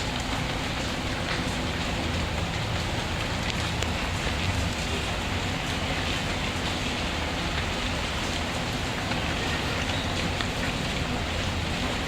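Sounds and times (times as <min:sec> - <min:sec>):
steady rain falling: 0:00.0 - 0:12.0
wood fire crackling: 0:00.0 - 0:12.0.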